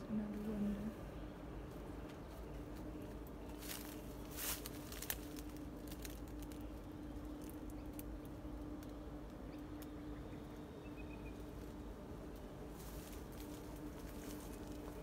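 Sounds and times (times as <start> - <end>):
faint low hum: 0.0 - 15.0
rustling through dry undergrowth: 0.1 - 15.0.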